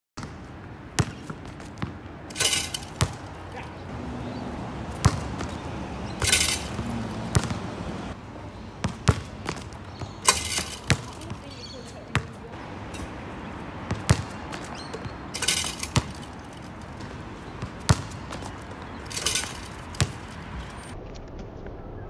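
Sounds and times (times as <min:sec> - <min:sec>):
basketball bouncing on hard court: 0:00.2 - 0:00.4, 0:01.0 - 0:03.6, 0:04.7 - 0:08.2, 0:08.8 - 0:21.0.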